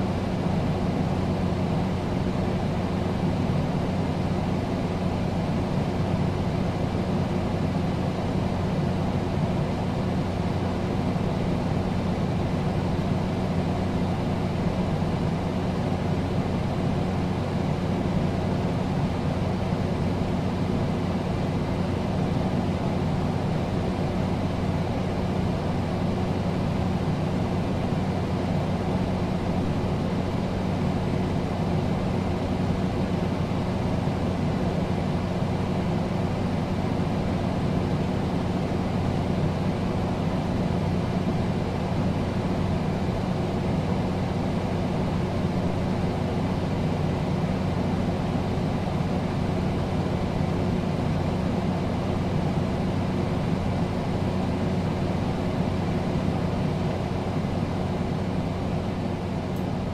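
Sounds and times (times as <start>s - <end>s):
air conditioner running: 0.0s - 59.9s.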